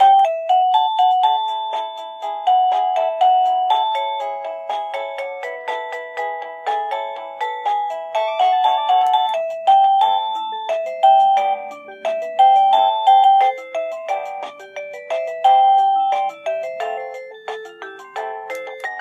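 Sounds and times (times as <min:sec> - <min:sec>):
doorbell chime melody: 0:00.0 - 0:19.0.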